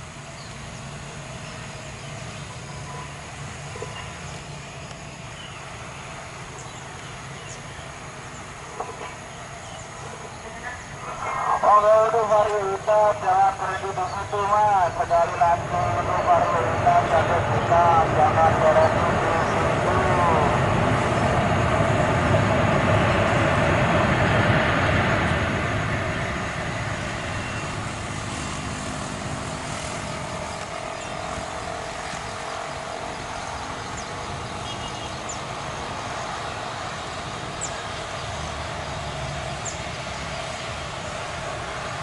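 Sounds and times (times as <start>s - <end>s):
jet airliner engines rumbling: 0.0s - 42.0s.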